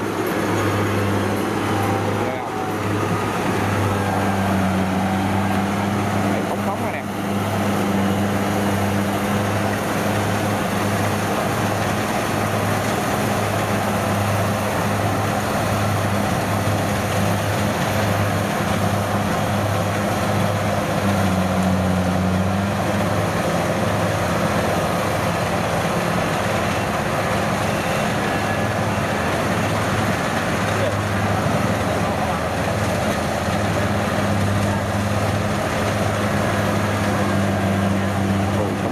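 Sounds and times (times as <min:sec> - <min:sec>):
diesel engine drone: 0:00.0 - 0:38.9
harvester machinery hum: 0:00.0 - 0:38.9.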